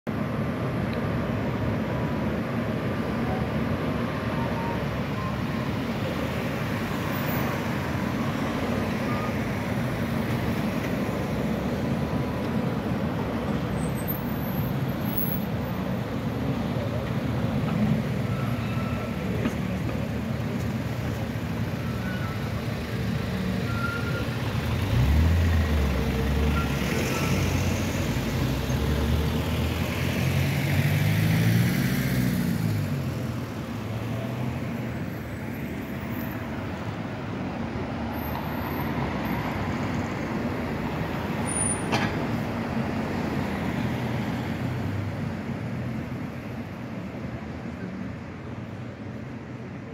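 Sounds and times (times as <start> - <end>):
street traffic: 0.0 - 49.9.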